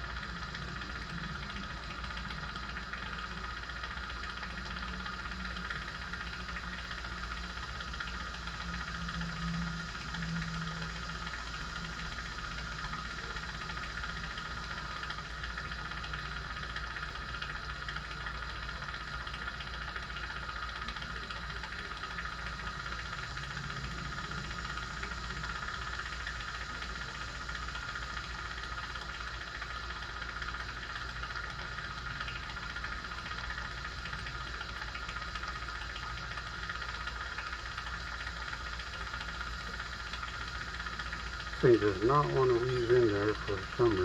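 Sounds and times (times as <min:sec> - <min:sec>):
mechanical hum with hiss: 0:00.0 - 0:44.0.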